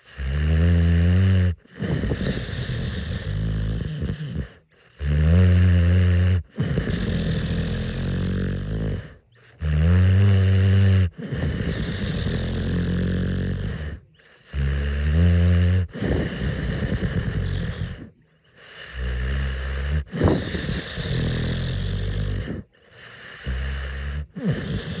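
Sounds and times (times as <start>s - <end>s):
dog snoring: 0.0s - 25.0s.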